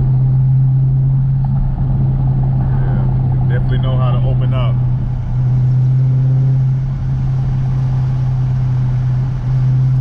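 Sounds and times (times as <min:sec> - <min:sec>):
low exhaust drone: 0:00.0 - 0:10.0
road noise: 0:00.0 - 0:10.0.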